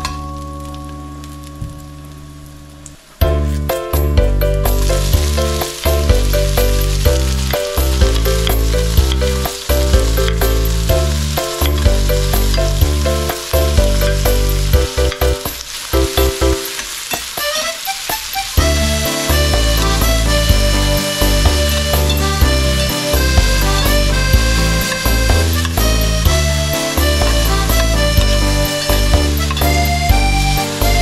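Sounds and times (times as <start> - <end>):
background music: 0.0 - 31.0
onions sizzling in a wok: 0.0 - 31.0.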